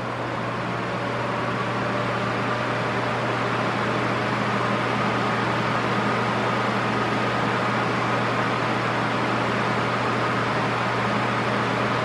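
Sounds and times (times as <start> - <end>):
desk fan running: 0.0 - 12.0.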